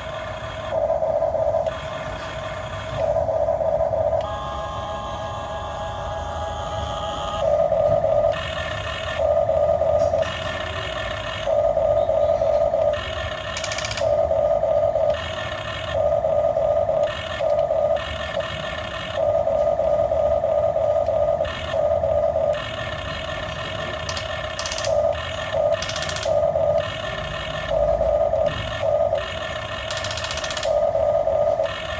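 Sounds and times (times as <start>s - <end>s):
toy electric gear motors whining: 0.0s - 31.9s.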